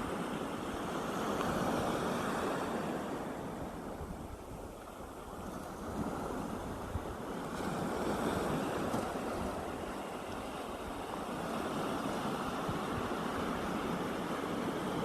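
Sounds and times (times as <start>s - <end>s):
sea waves washing onto beach: 0.0s - 15.0s
wind rumble on microphone: 0.0s - 15.0s.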